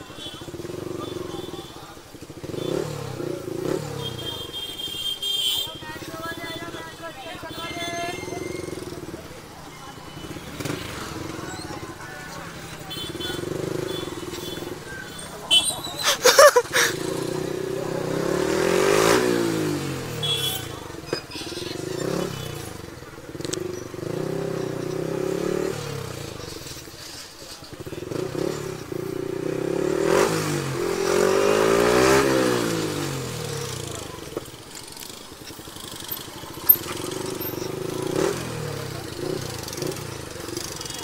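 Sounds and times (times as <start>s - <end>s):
motorcycle engine revving: 0.0s - 5.0s, 7.5s - 41.0s.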